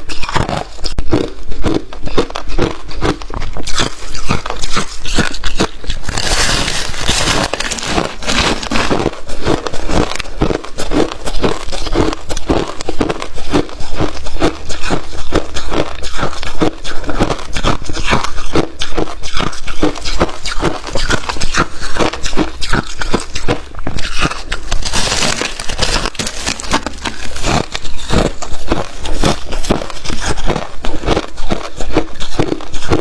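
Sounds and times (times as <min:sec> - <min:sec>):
crunching frost chewing: 0:00.0 - 0:33.0.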